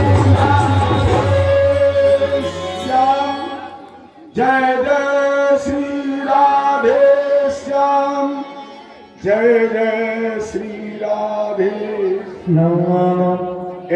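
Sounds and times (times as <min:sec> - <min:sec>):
devotional music with held notes: 0:00.0 - 0:13.3.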